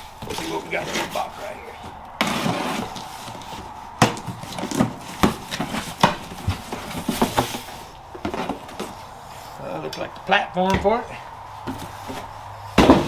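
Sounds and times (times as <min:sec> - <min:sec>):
cardboard box rustling and knocking: 0:00.1 - 0:09.3, 0:10.7 - 0:13.0.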